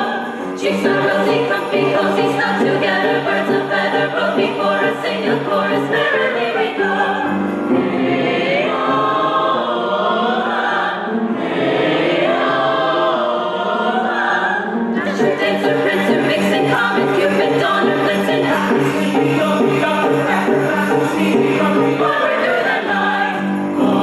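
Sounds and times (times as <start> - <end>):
choir singing: 0.0 - 24.0
musical accompaniment: 0.0 - 24.0.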